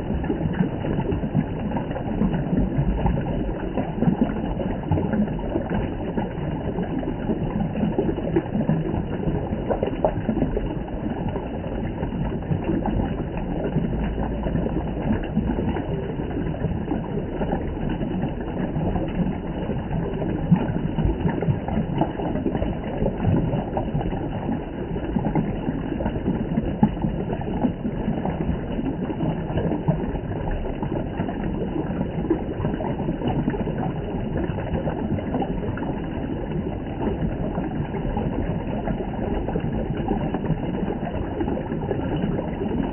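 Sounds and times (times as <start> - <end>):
spring water flowing and splashing: 0.0 - 42.9.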